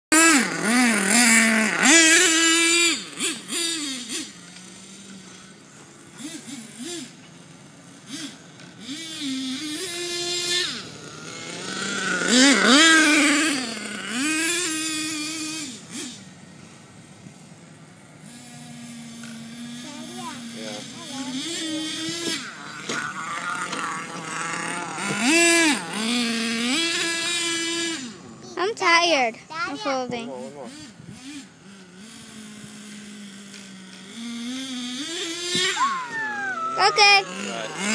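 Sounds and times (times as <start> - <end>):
small nitro engine revving: 0.1 - 37.9.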